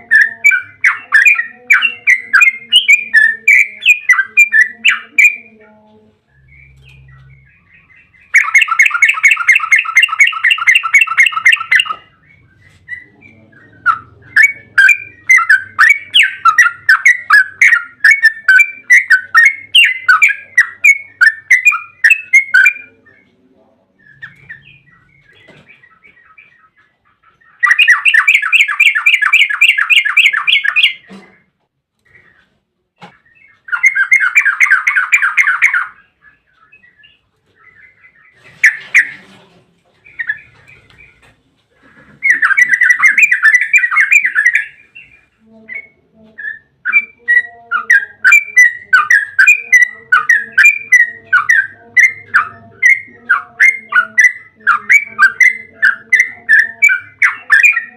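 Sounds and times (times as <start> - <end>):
bird singing rapid trill: 0.0 - 5.6, 6.2 - 23.3, 23.9 - 31.1, 33.2 - 39.2, 42.2 - 57.9.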